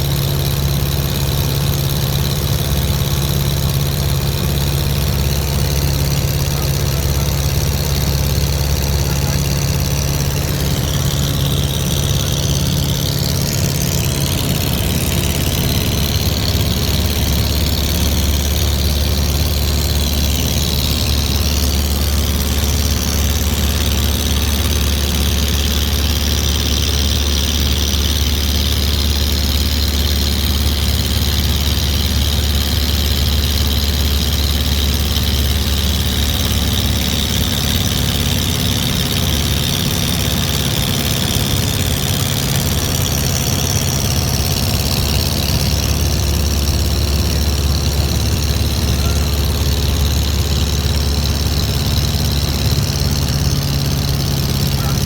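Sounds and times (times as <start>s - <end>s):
low engine drone: 0.0s - 55.0s.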